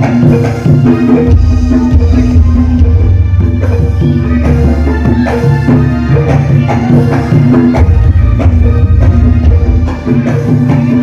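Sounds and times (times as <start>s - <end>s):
hand drums struck in rhythm: 0.0s - 11.0s.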